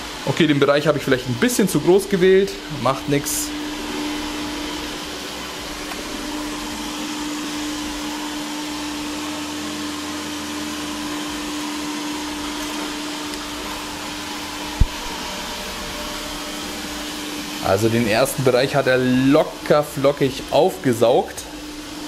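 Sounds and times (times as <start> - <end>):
robot vacuum cleaner whirring: 0.0 - 22.0.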